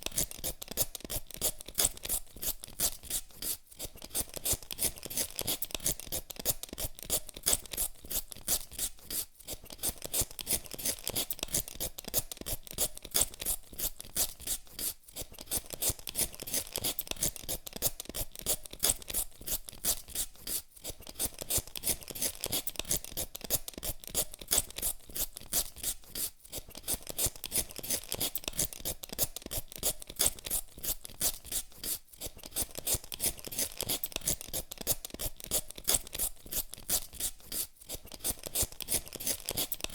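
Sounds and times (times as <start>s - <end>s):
peeler scraping potato: 0.0s - 39.9s.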